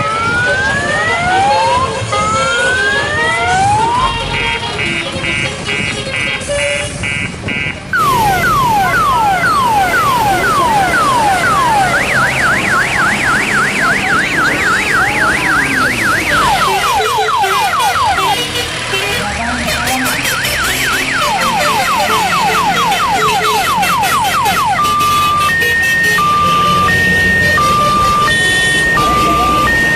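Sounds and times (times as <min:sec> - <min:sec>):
electronic siren: 0:00.0 - 0:04.6, 0:07.0 - 0:18.4, 0:19.4 - 0:29.9.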